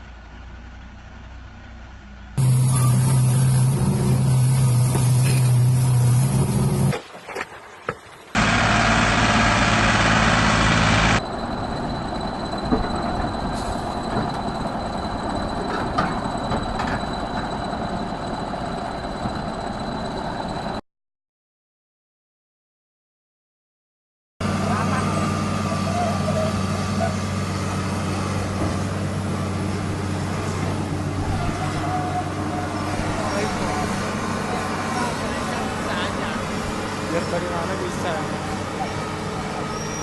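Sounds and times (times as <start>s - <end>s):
heavy machinery engines running: 0.0s - 7.0s, 8.3s - 20.8s, 24.4s - 40.0s.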